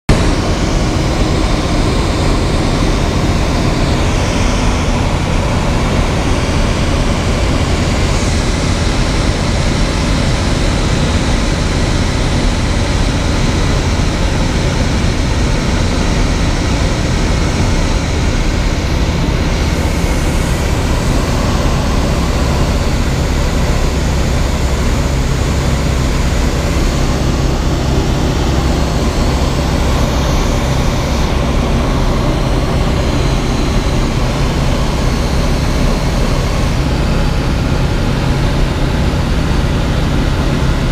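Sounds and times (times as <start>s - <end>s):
propeller engine droning: 0.1s - 40.9s.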